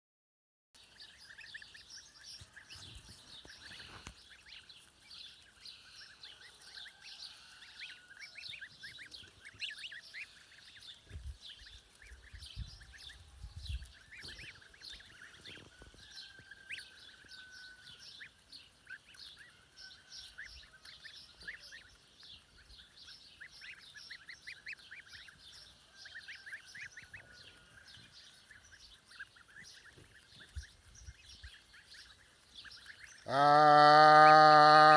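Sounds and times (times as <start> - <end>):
poultry chirping and peeping: 0.8 - 34.9.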